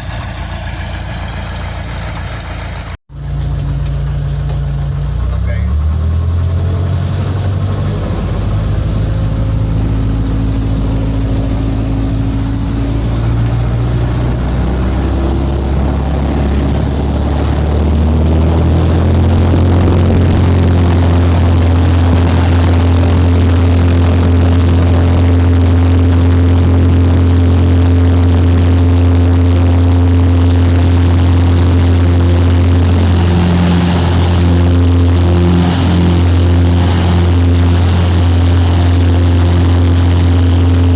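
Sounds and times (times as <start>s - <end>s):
light aircraft propeller engine: 0.0s - 40.9s.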